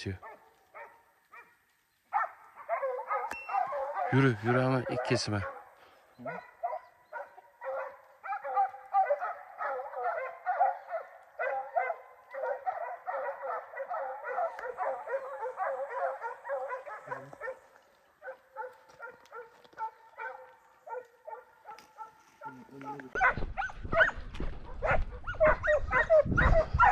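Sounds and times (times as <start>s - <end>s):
hound yelping barks: 0.2s - 26.9s.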